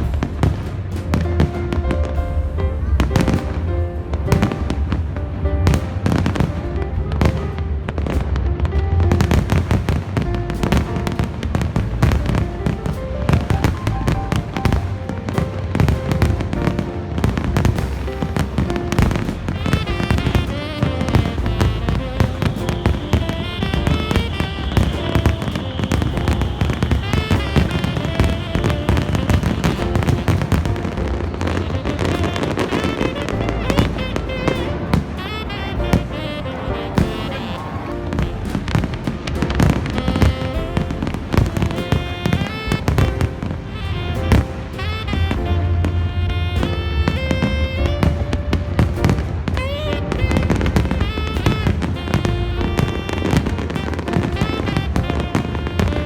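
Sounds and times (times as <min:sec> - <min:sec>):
fireworks cracking and booming: 0:00.0 - 0:56.0
music: 0:00.0 - 0:56.0.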